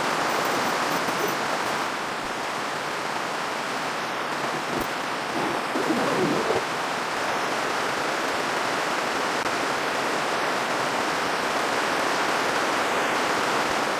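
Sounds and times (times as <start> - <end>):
heavy rain: 0.0 - 13.9.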